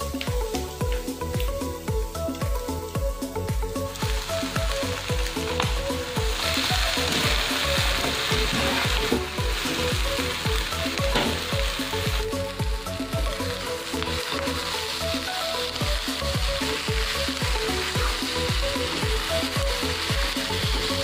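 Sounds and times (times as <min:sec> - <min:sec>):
music with a steady beat: 0:00.0 - 0:21.0
steady hiss: 0:00.0 - 0:21.0.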